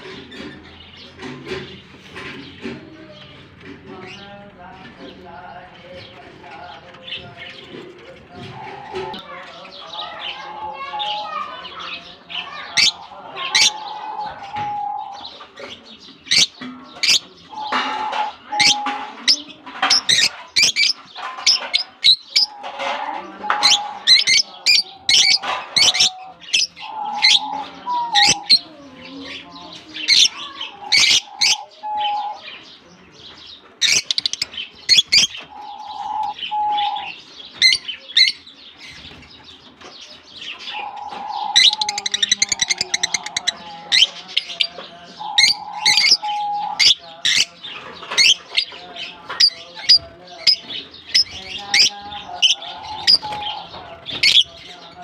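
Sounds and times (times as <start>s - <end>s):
birds chirping shrilly: 5.8s - 55.0s.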